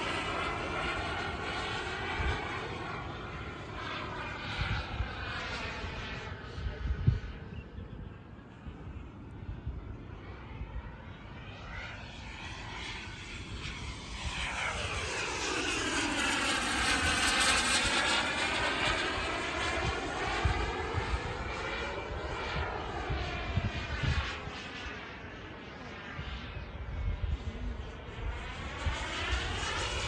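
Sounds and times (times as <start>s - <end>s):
model jet flying past: 0.0s - 30.0s.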